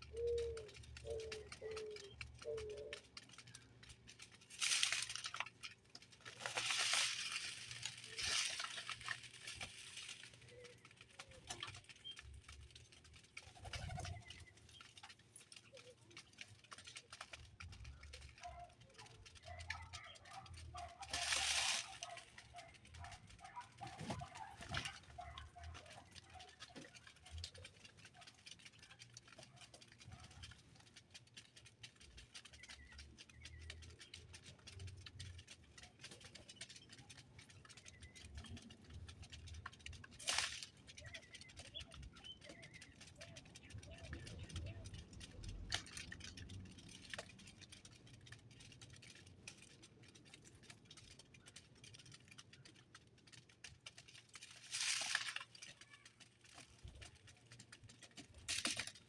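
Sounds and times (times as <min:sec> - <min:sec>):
birds calling faintly: 0:00.0 - 0:59.0
light clicks and pattering: 0:00.0 - 0:59.0.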